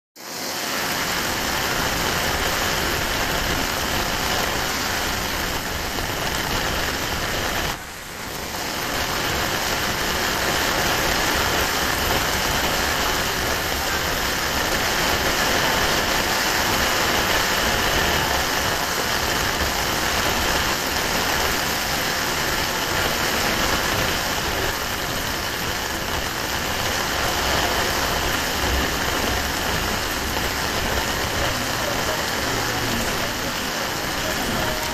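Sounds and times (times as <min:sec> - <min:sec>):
heavy rain on paving stones: 0:00.2 - 0:34.9.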